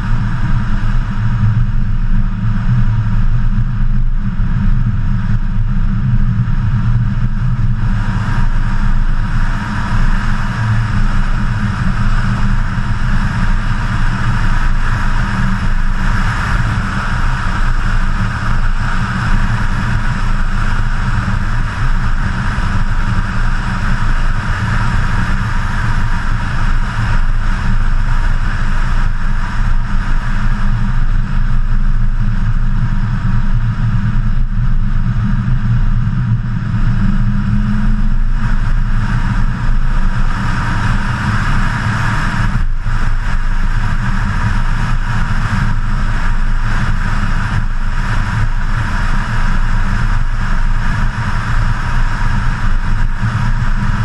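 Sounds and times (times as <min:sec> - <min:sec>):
car engine running: 0:00.0 - 0:54.0
wind and road noise: 0:00.0 - 0:54.0.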